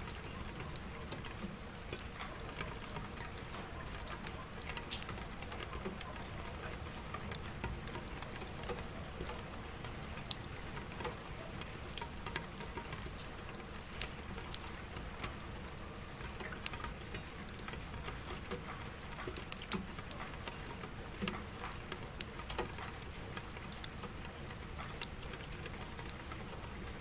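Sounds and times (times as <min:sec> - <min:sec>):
drops ticking on a surface: 0:00.0 - 0:27.0
rain patter: 0:00.0 - 0:27.0.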